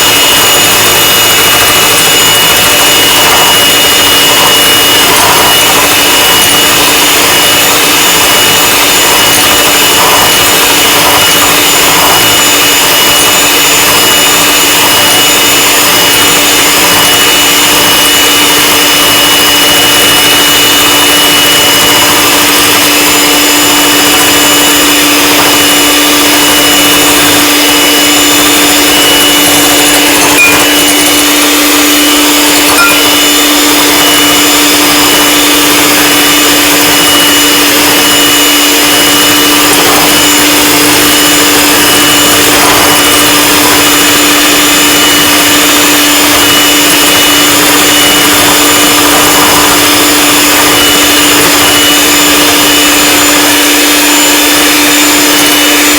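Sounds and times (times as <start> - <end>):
electric mixer running: 0.0 - 55.9.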